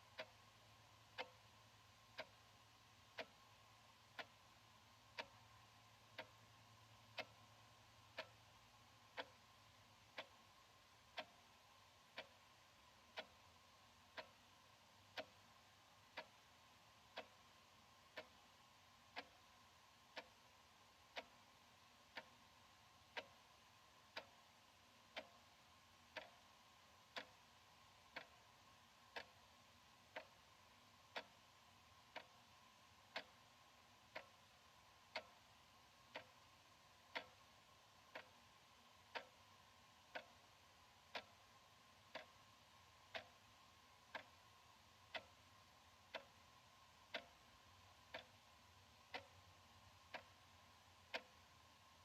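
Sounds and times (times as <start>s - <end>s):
faint steady hum: 0.0s - 52.0s
wall clock ticking: 0.0s - 52.0s.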